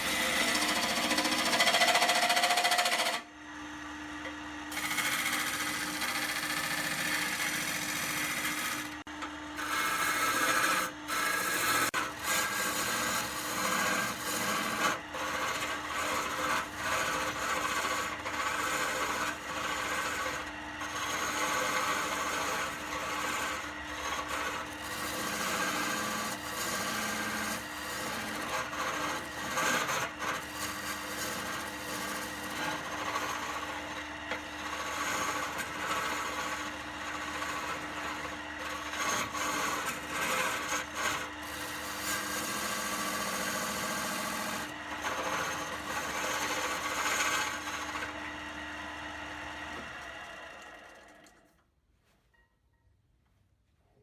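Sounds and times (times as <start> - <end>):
tool scraping spinning wood: 0.0 - 51.5
wood lathe motor hum: 0.0 - 51.5.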